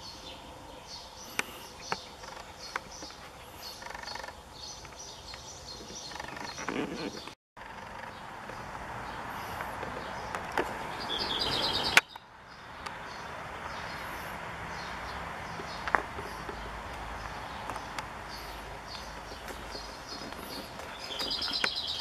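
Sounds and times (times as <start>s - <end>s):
birds chirping: 0.0s - 22.0s
outdoor background hiss: 0.0s - 22.0s.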